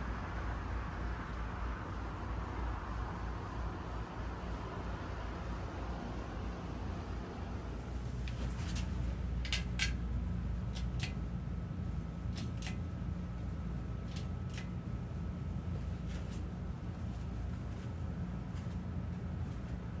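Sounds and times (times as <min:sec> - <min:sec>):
ceiling fan humming: 0:00.0 - 0:20.0.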